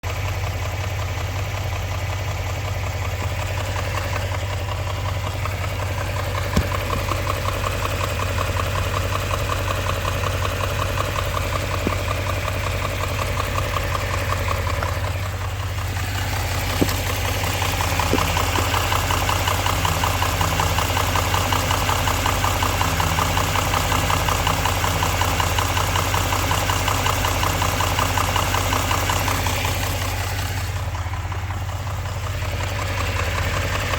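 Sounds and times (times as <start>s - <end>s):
engine idling with rhythmic knock: 0.0s - 33.9s.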